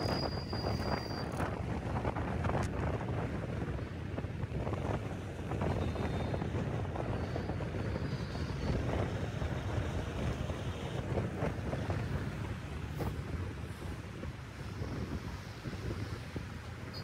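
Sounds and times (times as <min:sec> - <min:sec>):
vehicle rumble on road: 0:00.0 - 0:17.0
wind buffeting microphone: 0:00.0 - 0:17.0.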